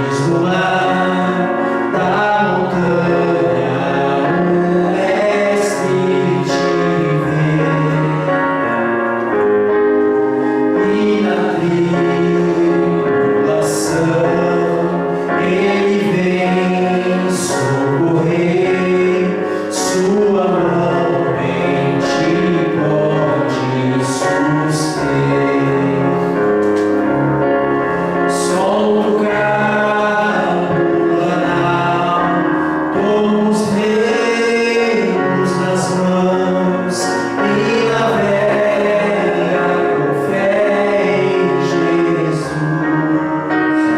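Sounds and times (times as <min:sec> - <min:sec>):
choir singing a gospel hymn: 0:00.0 - 0:27.0, 0:27.7 - 0:43.9.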